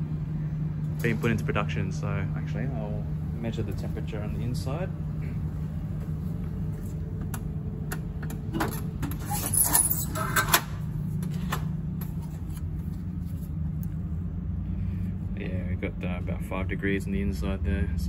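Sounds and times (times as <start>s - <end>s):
vending machine humming: 0.0s - 18.0s.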